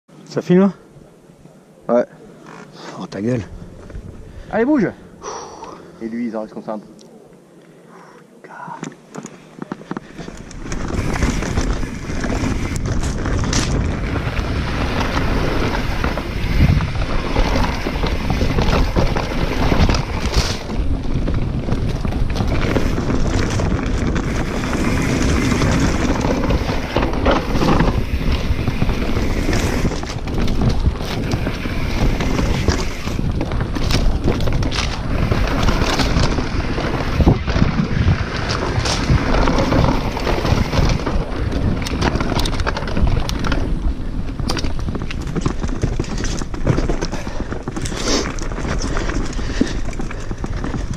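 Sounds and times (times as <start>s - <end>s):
bike rattling over bumps: 9.1s - 50.9s
wind on microphone: 10.0s - 50.9s.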